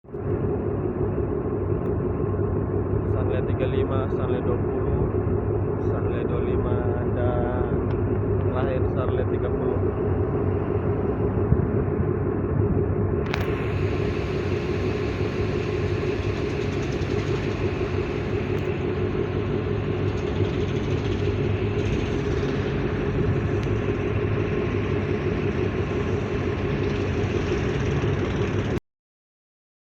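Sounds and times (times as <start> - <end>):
diesel engine droning: 0.0 - 28.8.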